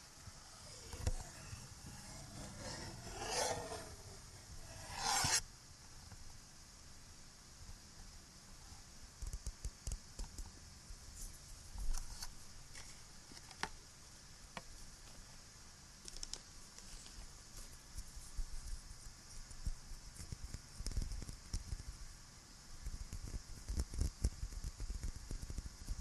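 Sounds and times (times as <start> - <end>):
recording hiss: 0.0 - 26.0.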